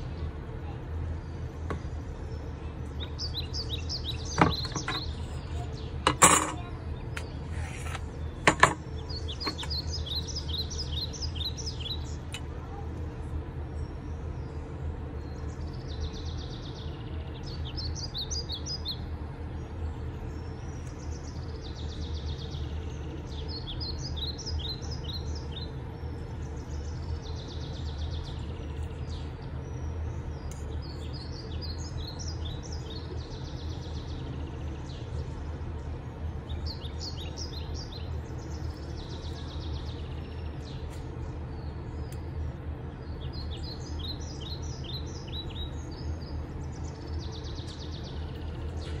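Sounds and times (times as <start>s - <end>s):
songbird singing: 0.0s - 49.0s
steady low hum: 0.0s - 49.0s.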